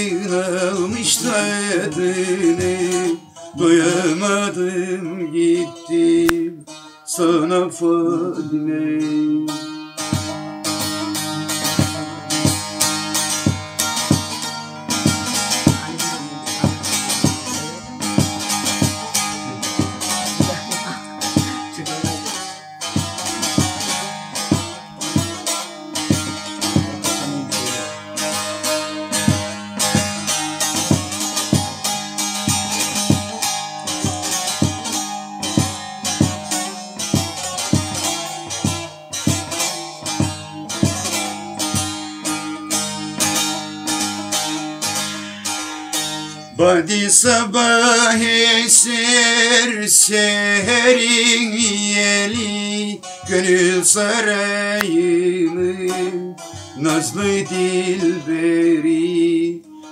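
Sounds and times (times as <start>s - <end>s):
long-necked lute strummed solo: 0.0s - 59.9s.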